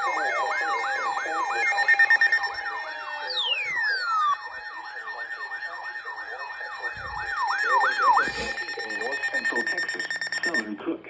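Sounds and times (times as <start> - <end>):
electronic siren sweeping: 0.0 - 10.7
steady alert tones: 0.0 - 10.7.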